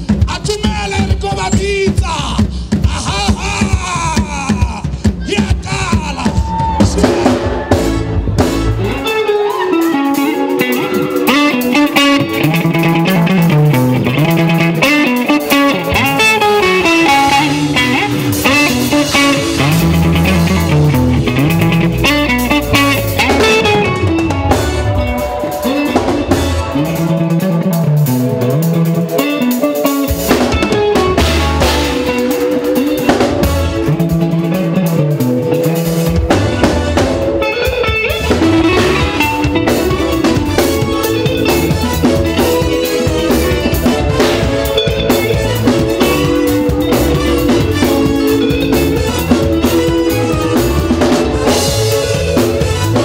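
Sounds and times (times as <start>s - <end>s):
bass line: 0.0s - 53.0s
drum kit: 0.0s - 53.0s
electric guitar melody: 6.6s - 53.0s.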